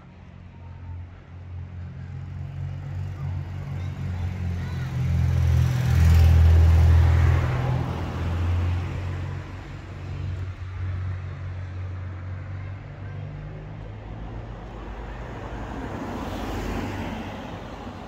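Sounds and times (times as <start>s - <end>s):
car engine rumble: 2.8s - 18.0s.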